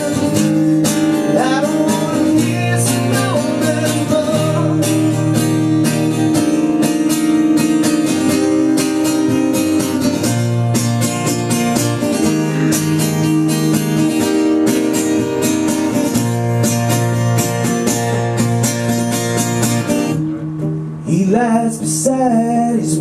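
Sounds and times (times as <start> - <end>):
acoustic guitar strummed: 0.0 - 23.0.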